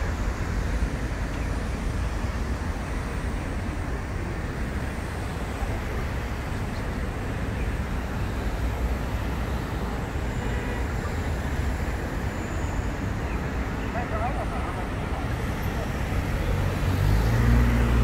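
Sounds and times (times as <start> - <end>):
traffic rumble on bridge: 0.0 - 18.0.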